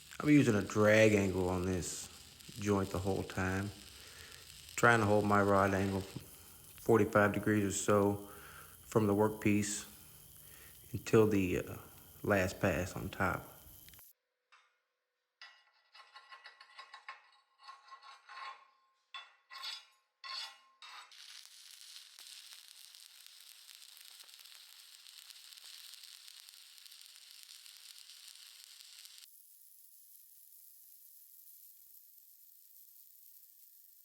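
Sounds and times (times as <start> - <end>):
welding arc crackling: 0.0 - 14.2, 20.9 - 34.0.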